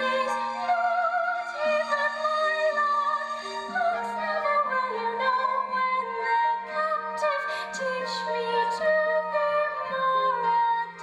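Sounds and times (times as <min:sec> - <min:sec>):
woman singing operatically: 0:00.0 - 0:11.0.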